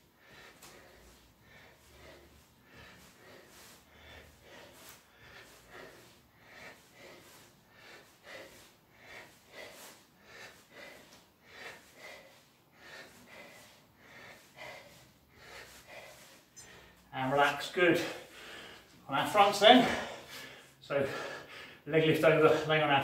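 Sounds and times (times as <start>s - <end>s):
man breathing hard: 0.0s - 23.0s.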